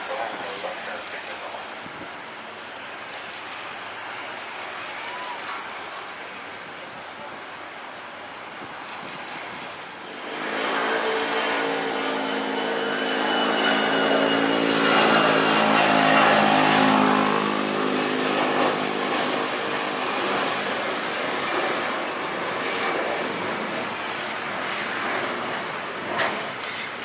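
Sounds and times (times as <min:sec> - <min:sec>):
jet airliner engines passing: 0:00.0 - 0:27.0.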